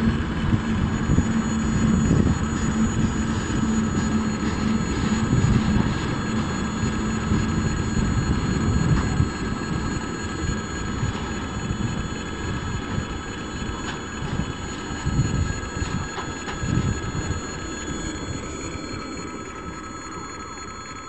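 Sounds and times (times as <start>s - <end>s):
level crossing warning bell: 0.0s - 21.0s.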